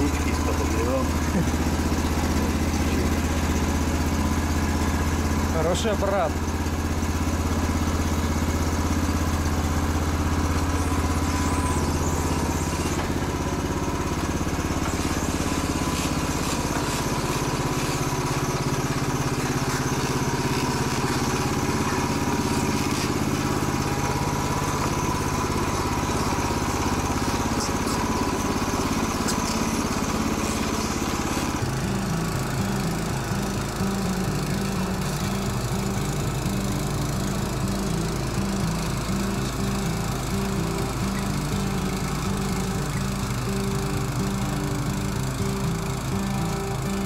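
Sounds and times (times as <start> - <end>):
small petrol engine running: 0.0 - 47.0.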